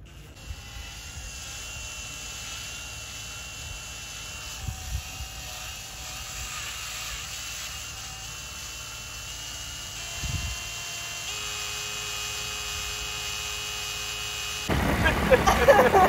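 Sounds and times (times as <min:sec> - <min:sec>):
power drill whining: 0:00.0 - 0:14.7.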